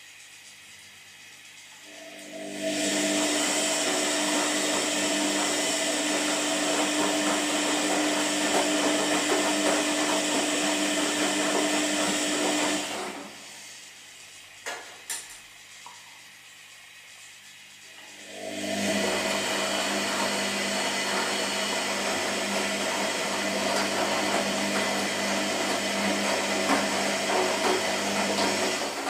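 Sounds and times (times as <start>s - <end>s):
washing machine motor running: 0.0s - 29.0s.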